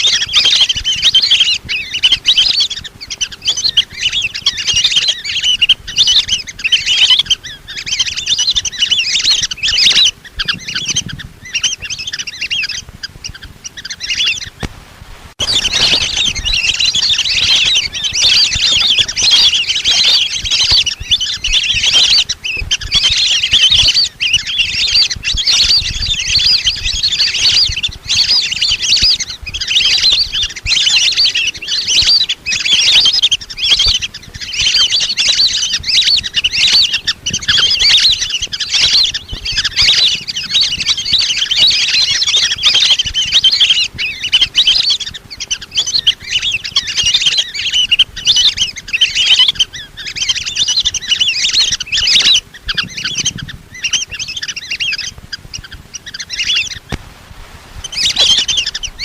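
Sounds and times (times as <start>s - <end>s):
ducks whistling chirps: 0.0s - 14.7s, 15.4s - 57.0s, 57.7s - 59.0s.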